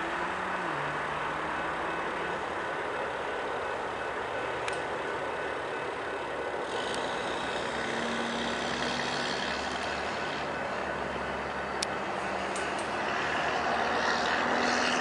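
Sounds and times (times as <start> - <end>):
diesel train rumbling: 0.0 - 15.0
road traffic passing: 0.0 - 15.0.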